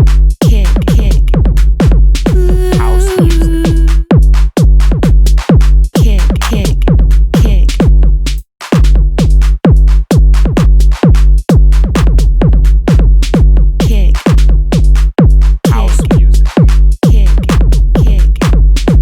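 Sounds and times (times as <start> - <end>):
drum machine kick drum: 0.0 - 19.0.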